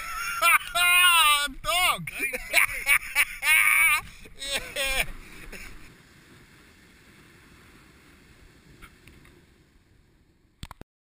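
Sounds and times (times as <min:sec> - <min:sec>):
distant surf: 0:00.0 - 0:10.8
wind: 0:00.0 - 0:10.8.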